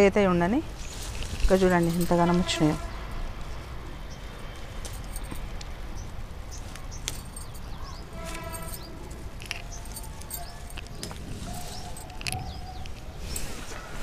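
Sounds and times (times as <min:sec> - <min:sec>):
small birds chirping: 0:02.8 - 0:14.0.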